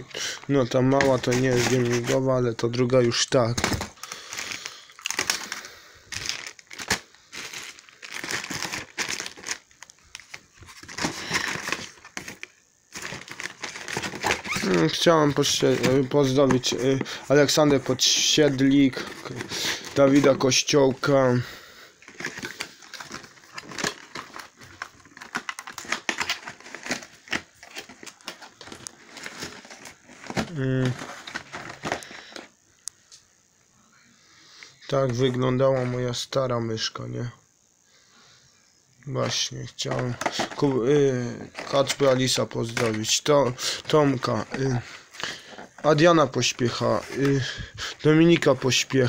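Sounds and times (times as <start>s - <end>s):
plastic packaging crinkling: 0.0s - 21.0s, 22.0s - 32.5s, 39.3s - 49.0s.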